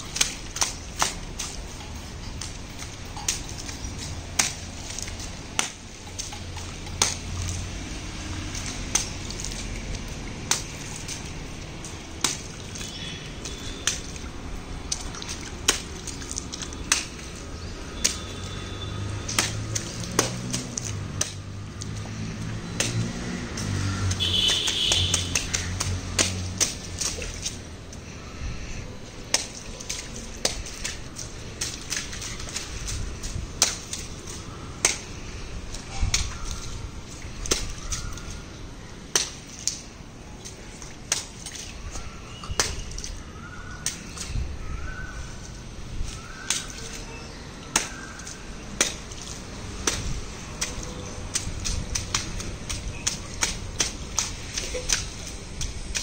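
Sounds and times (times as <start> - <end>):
flip-flops splashing through water: 0.0 - 56.0.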